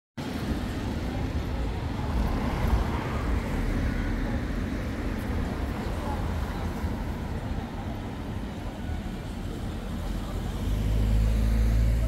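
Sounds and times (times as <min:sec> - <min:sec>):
passing cars and scooters: 0:00.2 - 0:12.0.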